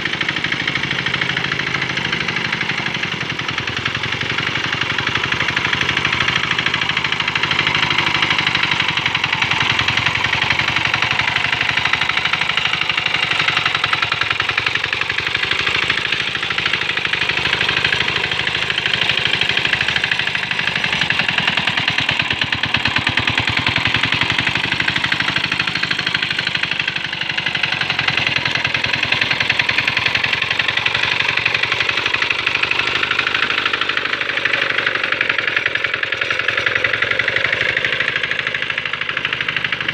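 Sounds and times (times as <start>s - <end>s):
small diesel engine knocking: 0.0s - 39.9s.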